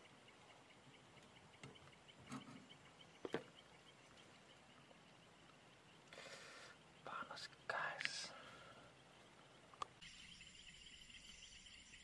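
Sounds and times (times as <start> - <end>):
insect chirps: 0.0 - 12.0.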